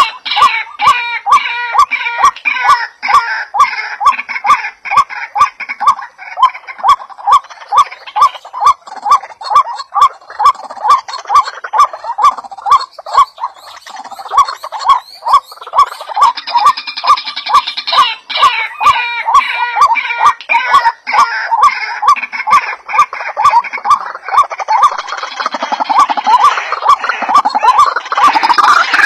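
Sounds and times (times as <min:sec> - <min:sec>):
higher chirping calls: 0:00.0 - 0:29.0.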